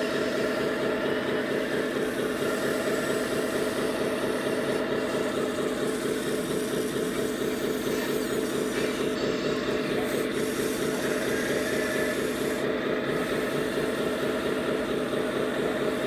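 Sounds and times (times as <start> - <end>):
radio-controlled truck running: 0.0 - 16.0.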